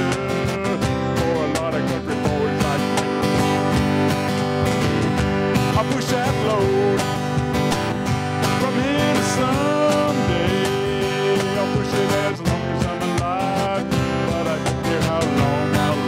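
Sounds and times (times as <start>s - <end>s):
man singing: 0.0s - 4.2s, 5.5s - 16.0s
acoustic guitar strumming: 0.0s - 16.0s
cajon beat: 0.0s - 16.0s.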